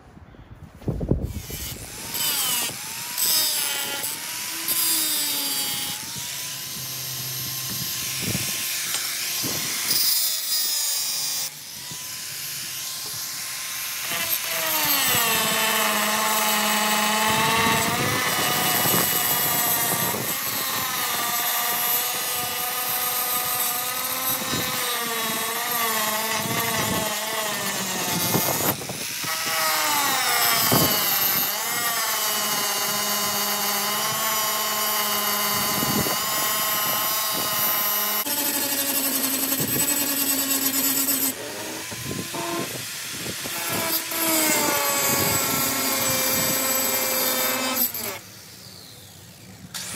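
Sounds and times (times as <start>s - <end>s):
angle grinder cutting steel: 1.3s - 48.6s.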